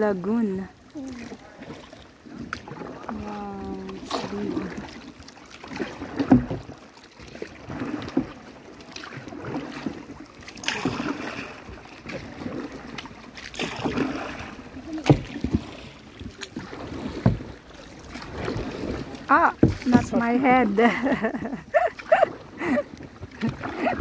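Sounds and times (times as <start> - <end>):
paddle splashing in water: 0.0 - 24.0.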